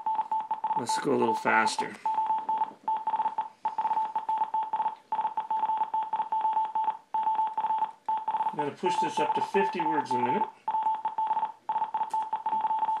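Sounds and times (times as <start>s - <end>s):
morse code beeps: 0.0s - 13.0s.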